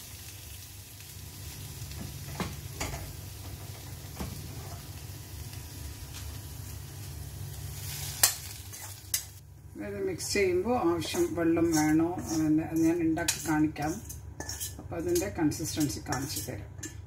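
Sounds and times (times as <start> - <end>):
onions sizzling in a pan: 0.0 - 17.0
low steady hum: 0.2 - 17.0.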